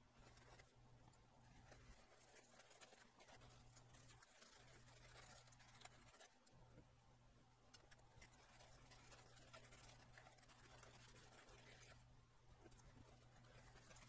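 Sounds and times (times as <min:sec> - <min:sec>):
paper towel rustling and scratching: 0:00.0 - 0:00.8, 0:01.4 - 0:06.5, 0:08.2 - 0:14.0
low steady hum: 0:00.0 - 0:14.0.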